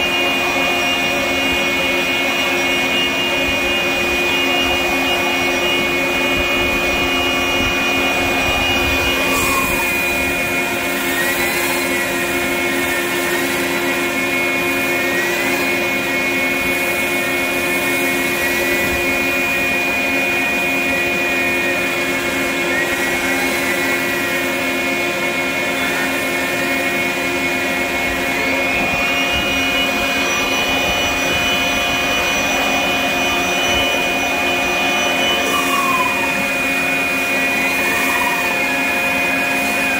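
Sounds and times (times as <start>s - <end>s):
electric sander whine: 0.0s - 39.9s
shop vacuum running: 0.0s - 39.9s.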